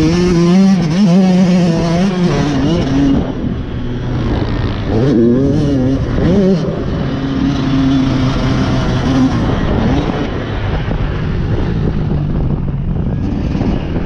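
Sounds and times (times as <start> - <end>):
dirt bike engine revving: 0.0 - 12.1.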